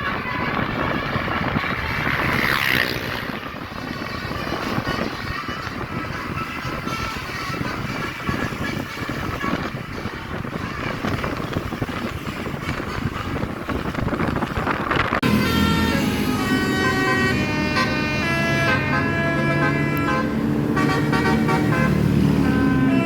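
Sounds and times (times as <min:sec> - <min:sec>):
multi-tone bus horn tune: 0:00.0 - 0:13.7, 0:15.2 - 0:23.0
engine and street noise: 0:00.0 - 0:23.0.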